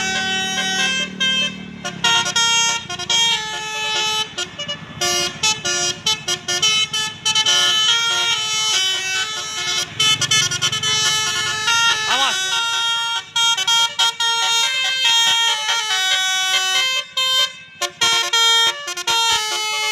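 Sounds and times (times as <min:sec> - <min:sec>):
bus engine rumbling: 0:00.0 - 0:19.9
musical bus horn playing a tune: 0:00.0 - 0:19.9.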